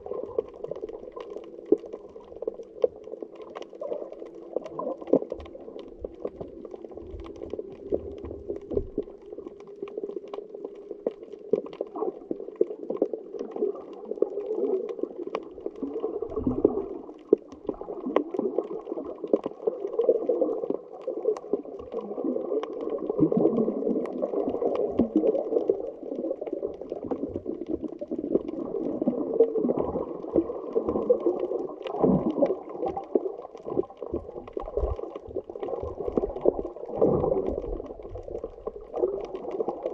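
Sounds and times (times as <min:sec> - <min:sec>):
faint clicks and crackles: 0:00.0 - 0:39.9
underwater water rush: 0:00.0 - 0:39.9.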